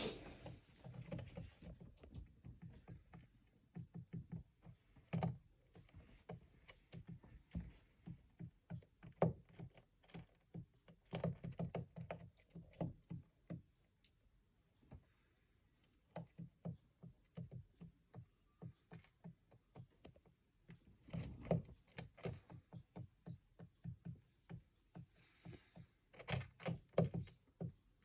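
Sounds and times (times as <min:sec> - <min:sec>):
pigeon tapping beak and feet: 0:00.8 - 0:14.0, 0:15.8 - 0:28.0.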